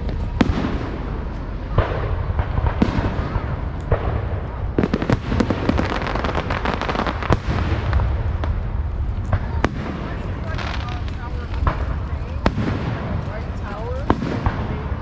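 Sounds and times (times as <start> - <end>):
fireworks cracks and bangs: 0.0 - 15.0
low rumble: 0.0 - 15.0.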